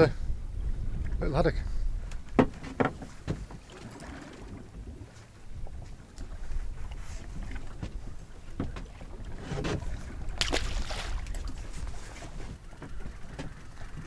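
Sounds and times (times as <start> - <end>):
wind on microphone: 0.0 - 14.0
water against boat hull: 2.0 - 14.0.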